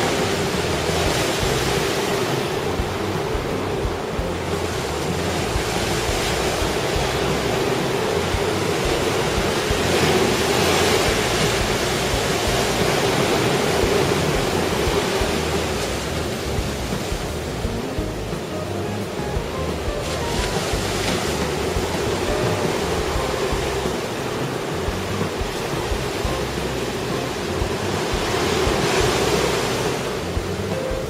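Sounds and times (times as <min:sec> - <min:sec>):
heavy surf breaking: 0:00.0 - 0:31.0
wind: 0:00.0 - 0:31.0.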